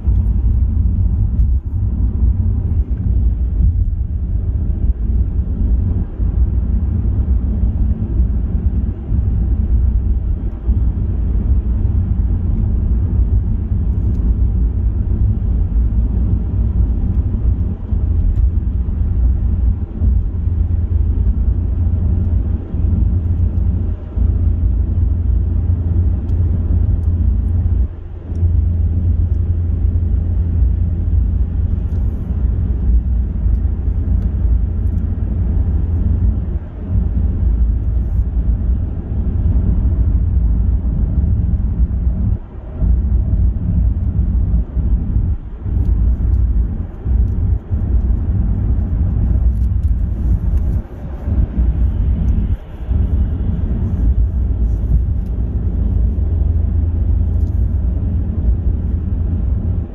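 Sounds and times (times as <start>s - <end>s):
car driving at speed: 0.0s - 59.9s.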